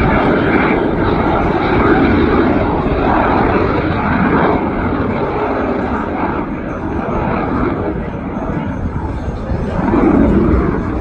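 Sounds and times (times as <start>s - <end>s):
aircraft engine overhead: 0.0s - 11.0s.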